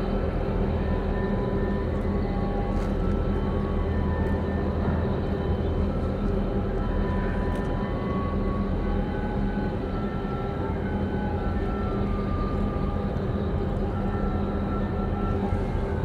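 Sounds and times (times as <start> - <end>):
ship engines droning: 0.0 - 16.0
wind: 0.0 - 16.0.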